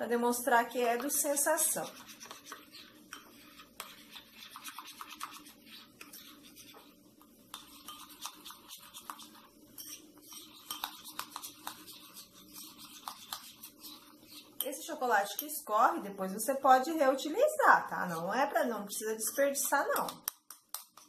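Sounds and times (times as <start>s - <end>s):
spoon stirring in ceramic bowl: 0.6s - 15.6s, 17.8s - 21.0s.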